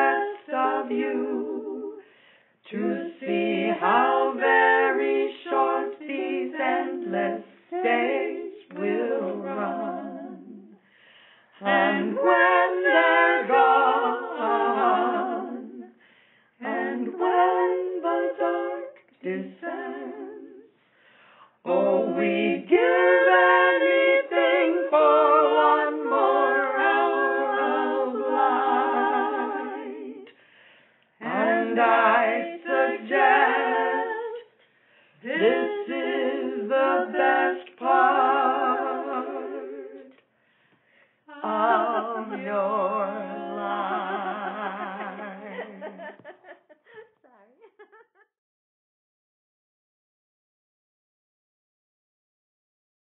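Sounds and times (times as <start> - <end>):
women singing a cappella: 0.0 - 30.5, 31.1 - 40.3, 40.9 - 47.8.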